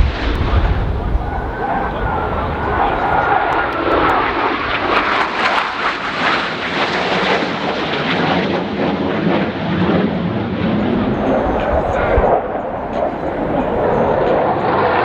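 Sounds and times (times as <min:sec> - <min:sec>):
jet aircraft roaring past: 0:00.0 - 0:15.0.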